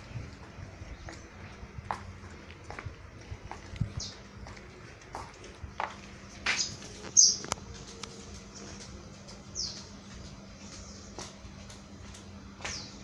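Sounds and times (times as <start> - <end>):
small birds chirping: 0.0 - 2.8, 3.5 - 11.6, 12.6 - 13.0.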